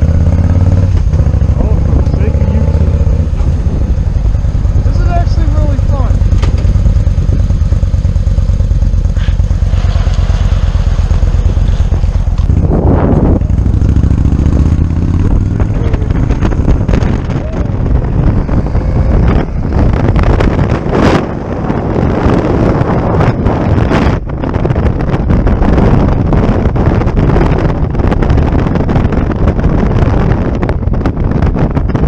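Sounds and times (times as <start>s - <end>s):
motorcycle engine accelerating: 0.0s - 32.0s
wind noise on microphone: 0.0s - 32.0s.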